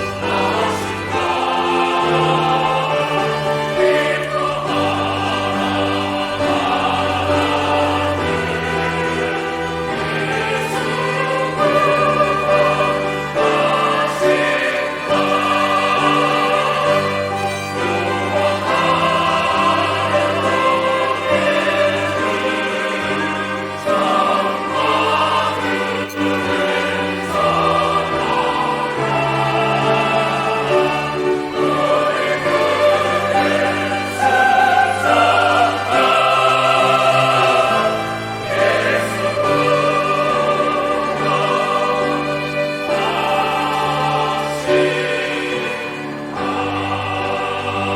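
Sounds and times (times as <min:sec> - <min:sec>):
church choir singing: 0:00.0 - 0:47.9
organ: 0:00.0 - 0:47.9
piano: 0:00.0 - 0:47.9.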